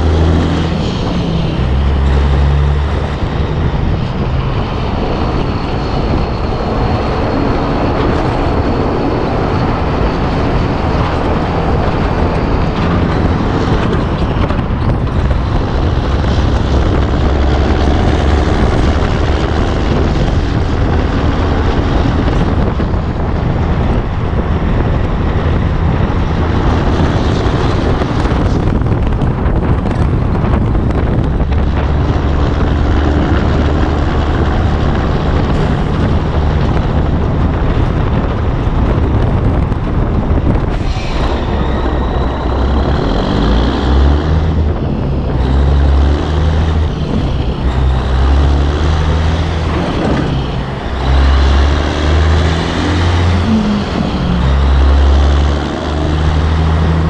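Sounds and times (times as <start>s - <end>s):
truck diesel engine: 0.0s - 57.0s
wind noise: 0.0s - 57.0s.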